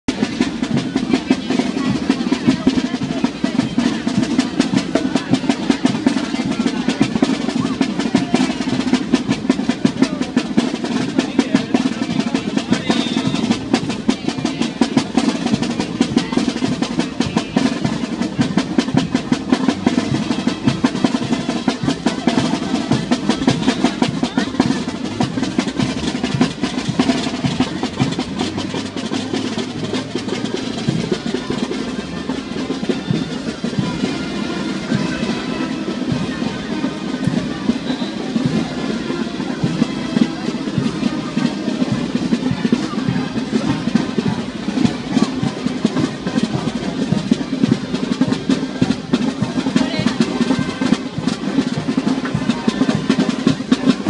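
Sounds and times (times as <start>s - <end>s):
snare drums playing rapid rolls: 0.0s - 54.0s.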